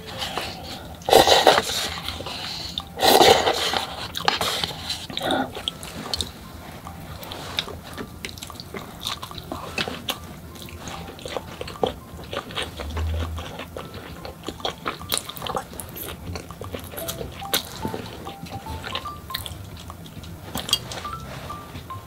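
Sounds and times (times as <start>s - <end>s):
chewing fried food: 0.0s - 22.0s.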